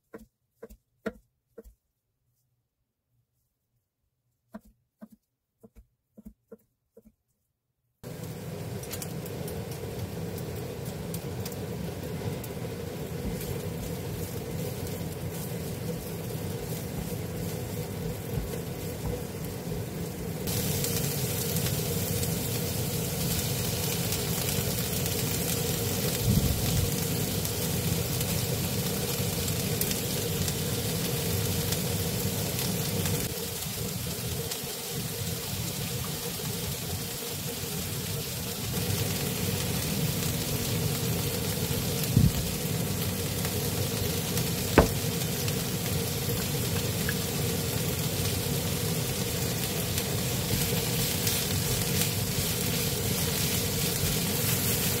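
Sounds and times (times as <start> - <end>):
onion sizzling in pan: 8.0 - 55.0.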